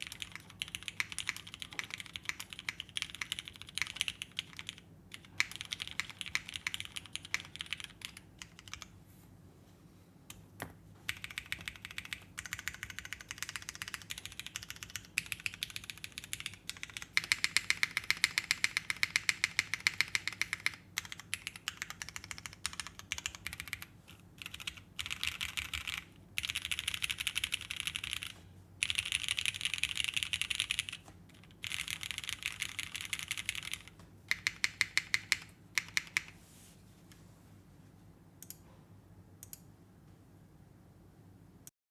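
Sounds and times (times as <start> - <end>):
mechanical keyboard typing: 0.0 - 8.9, 11.1 - 36.4.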